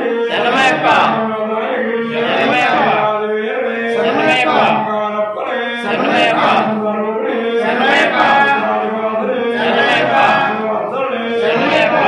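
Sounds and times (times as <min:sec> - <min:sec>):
men chanting a hymn: 0:00.0 - 0:12.0.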